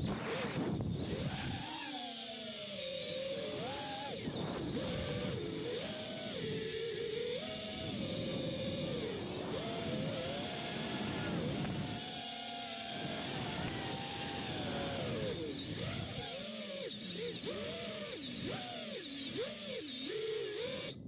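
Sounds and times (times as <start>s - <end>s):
drone motors and propellers whining: 0.0s - 21.0s.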